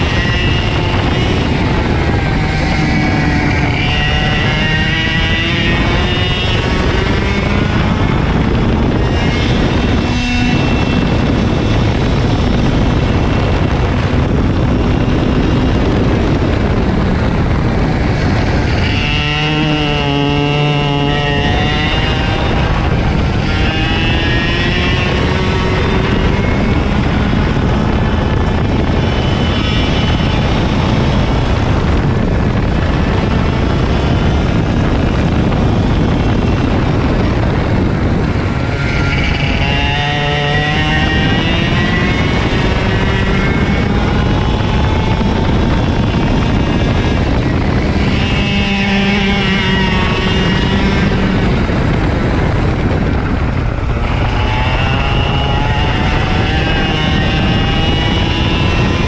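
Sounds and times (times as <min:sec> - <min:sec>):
two-stroke kart engine racing: 0:00.0 - 0:59.0.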